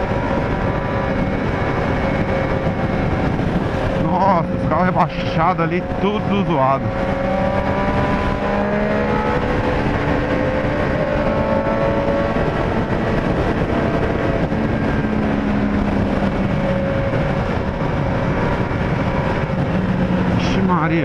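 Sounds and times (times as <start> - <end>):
motorcycle engine at speed: 0.0 - 21.0
road noise: 0.0 - 21.0
wind noise: 0.0 - 21.0.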